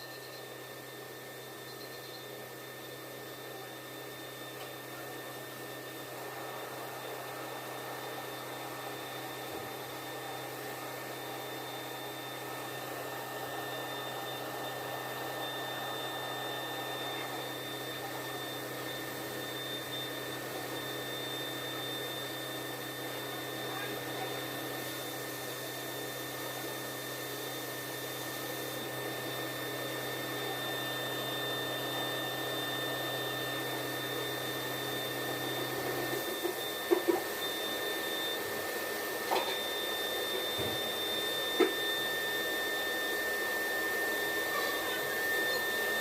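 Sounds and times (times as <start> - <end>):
high-pitched spindle whine: 0.0 - 46.0.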